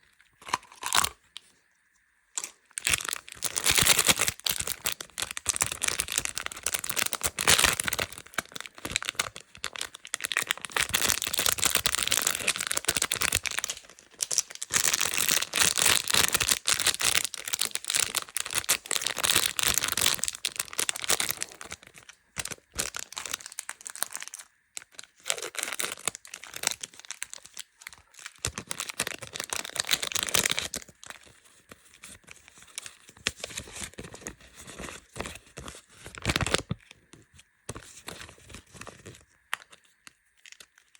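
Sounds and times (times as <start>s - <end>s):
plastic wrappers crinkling: 2.4s - 40.9s.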